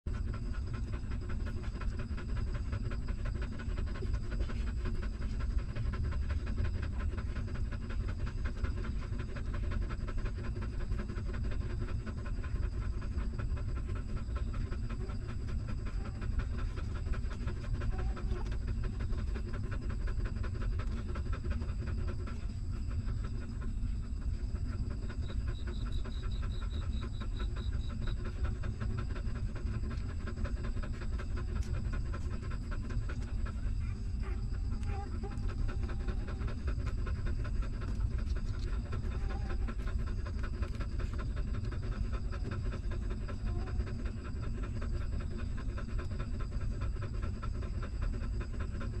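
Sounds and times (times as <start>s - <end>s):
dog panting: 0.0s - 49.0s
faint high pulsing sound: 0.1s - 49.0s.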